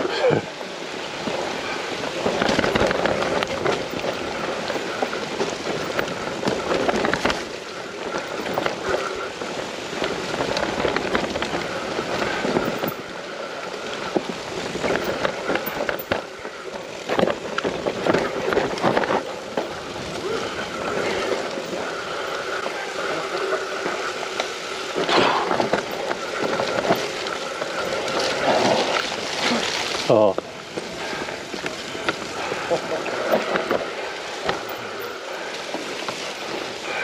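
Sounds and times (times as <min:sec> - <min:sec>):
bike knocking and rattling: 0:00.0 - 0:37.0
bike tyres rolling over stones: 0:00.0 - 0:37.0.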